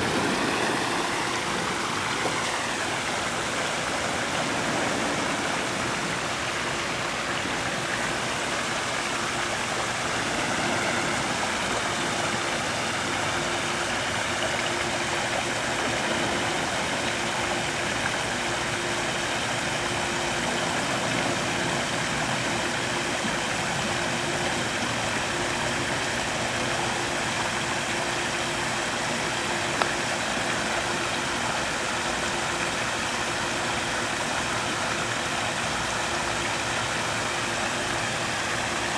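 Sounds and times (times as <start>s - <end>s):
steady outdoor rushing noise: 0.0s - 35.9s
faint steady hum: 0.0s - 38.9s.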